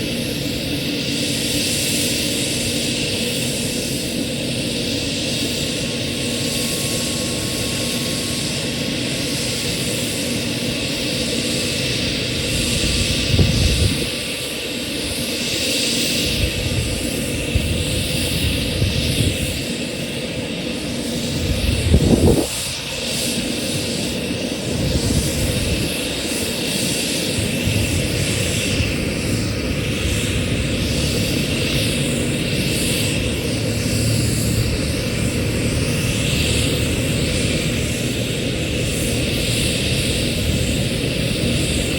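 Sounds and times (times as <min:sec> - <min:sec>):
helicopter turbine and rotor: 0:00.0 - 0:41.9
low rumbling surges: 0:05.0 - 0:15.5, 0:16.2 - 0:41.9.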